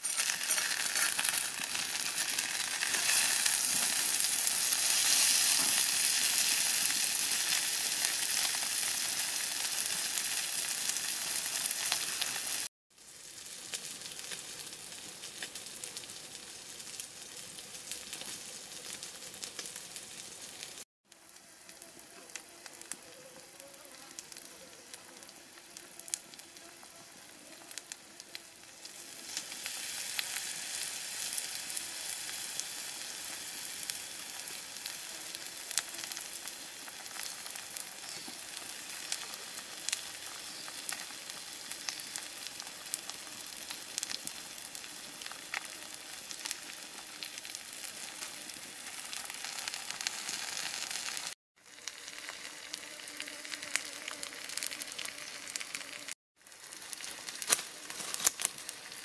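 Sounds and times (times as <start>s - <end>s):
fire crackles: 0.0s - 59.0s
fish sizzling on hot stone: 0.0s - 59.0s.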